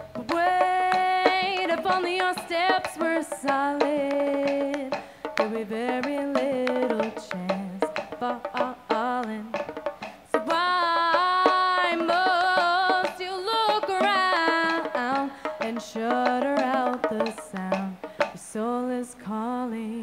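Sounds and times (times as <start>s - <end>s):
backing track with percussion hits: 0.0s - 18.7s
woman singing: 0.0s - 20.0s.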